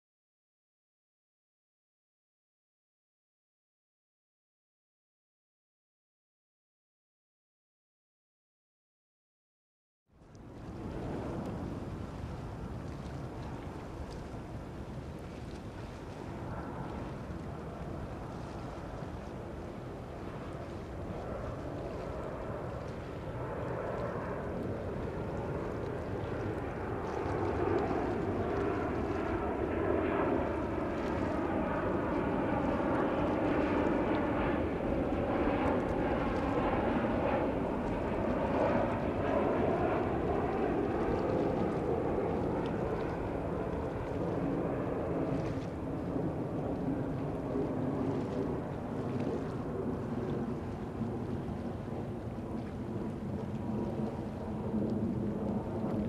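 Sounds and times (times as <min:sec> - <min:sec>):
jet airliner rumble: 0:10.3 - 0:56.0
jet engine whine: 0:10.4 - 0:56.0.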